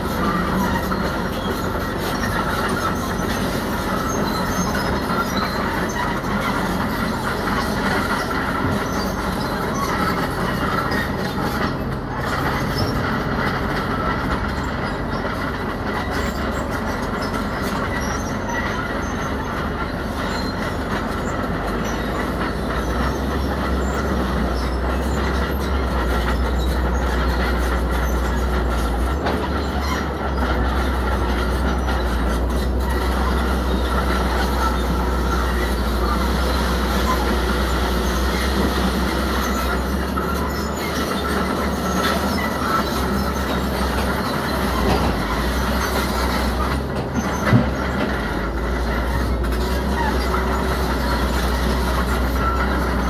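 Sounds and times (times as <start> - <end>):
crawler tracks squealing and clanking: 0.0 - 53.0
diesel engine rumbling: 0.0 - 53.0.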